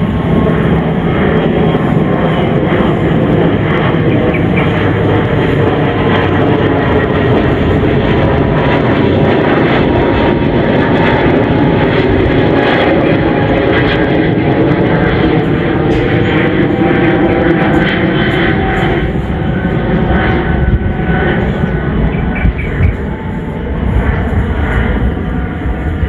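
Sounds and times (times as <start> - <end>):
jet engines at takeoff thrust: 0.0 - 26.0.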